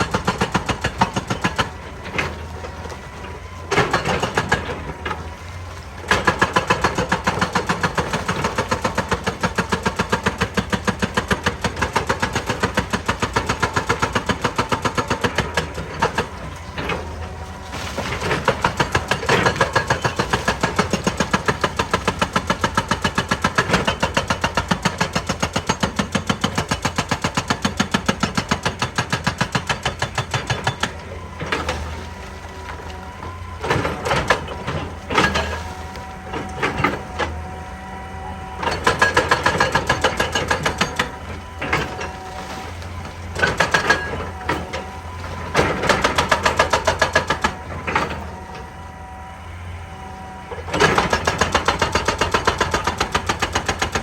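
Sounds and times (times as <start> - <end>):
hydraulic breaker hammering rock: 0.0 - 49.2, 50.0 - 54.0
diesel engine drone: 0.0 - 54.0.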